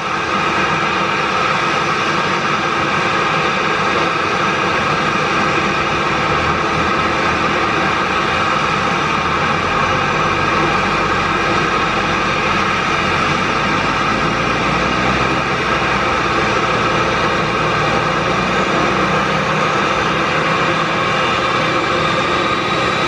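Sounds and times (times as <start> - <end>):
jet engines running loud: 0.0 - 23.0.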